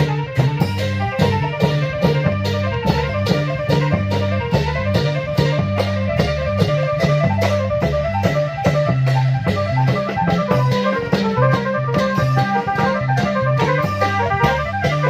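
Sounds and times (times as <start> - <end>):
bass line: 0.0 - 15.0
driving drum beat: 0.0 - 15.0
plucked keyboard-like melody: 0.0 - 15.0.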